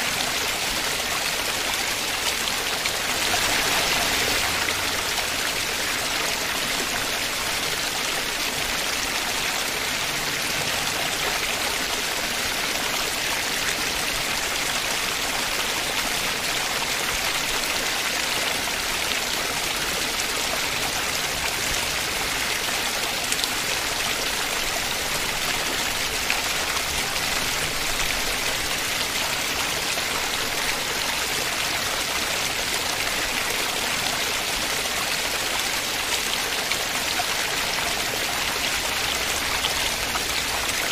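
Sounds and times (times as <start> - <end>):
heavy rain: 0.0 - 40.9
rushing floodwater: 0.0 - 40.9.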